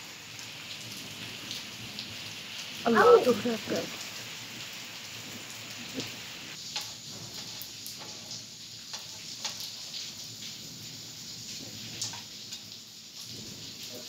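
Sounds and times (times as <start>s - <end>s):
hailstones tapping: 0.0s - 14.0s
rain hiss: 0.0s - 14.0s.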